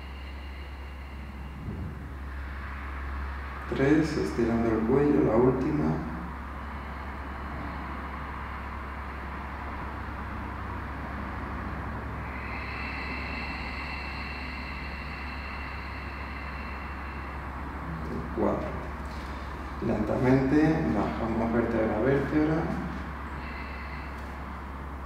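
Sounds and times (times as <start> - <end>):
faint high two-tone whine: 0.0 - 25.0
low hum and hiss: 0.0 - 25.0.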